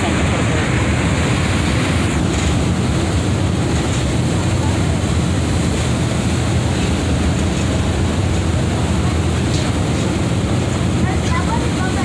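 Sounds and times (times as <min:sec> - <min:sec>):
churning boat wake: 0:00.0 - 0:12.0
ship engine rumble: 0:00.0 - 0:12.0
wind buffeting microphone: 0:00.0 - 0:12.0.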